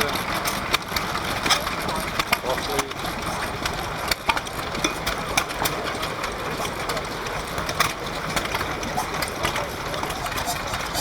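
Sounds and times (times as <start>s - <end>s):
stationary engines clattering: 0.0s - 11.0s.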